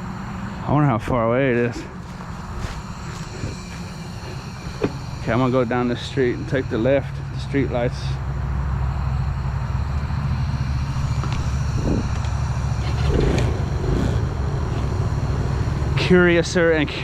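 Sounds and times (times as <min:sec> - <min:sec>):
vehicle engine drone: 0:00.0 - 0:17.0
rushing noise: 0:01.7 - 0:16.0.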